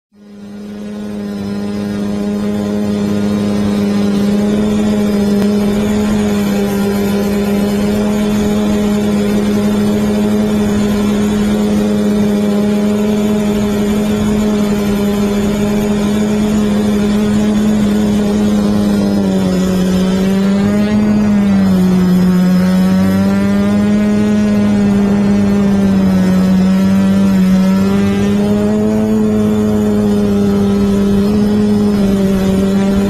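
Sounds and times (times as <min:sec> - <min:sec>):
drone motors and propellers humming: 0:00.1 - 0:33.0.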